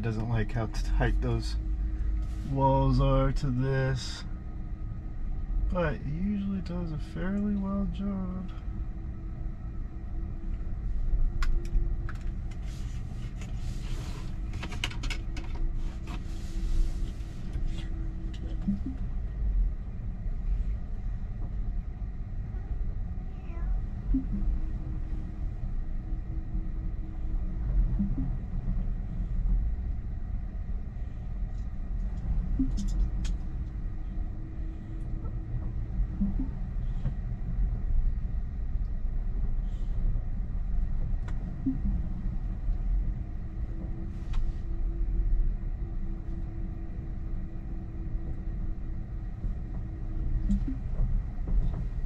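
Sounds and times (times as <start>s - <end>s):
car low rumble: 0.0s - 52.0s
electric motor low hum: 0.0s - 52.0s.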